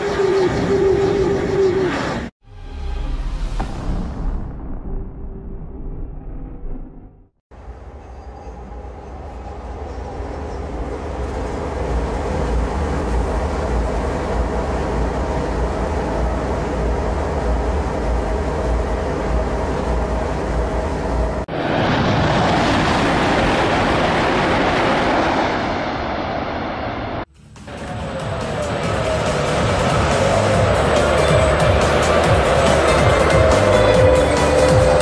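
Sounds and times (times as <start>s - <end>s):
high-speed train passing: 0.0s - 2.8s, 7.5s - 35.0s.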